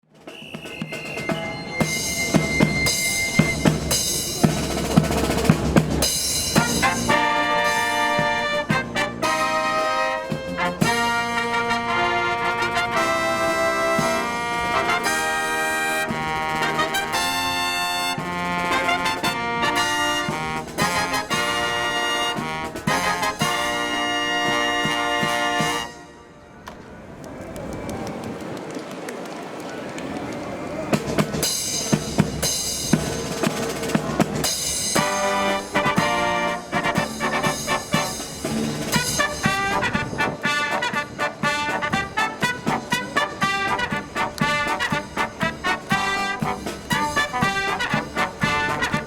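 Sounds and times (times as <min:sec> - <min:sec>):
drumming: 0:00.0 - 0:26.0, 0:30.8 - 0:49.0
brass band playing fanfare: 0:00.6 - 0:26.4, 0:31.0 - 0:49.0.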